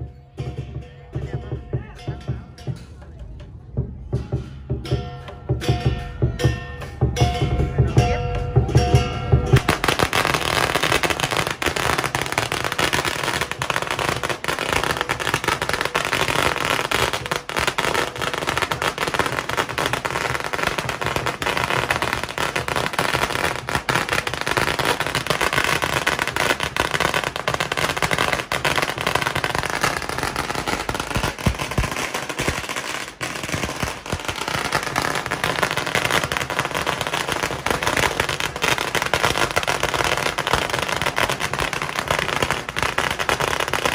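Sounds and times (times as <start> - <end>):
firecrackers crackling: 6.9 - 43.9.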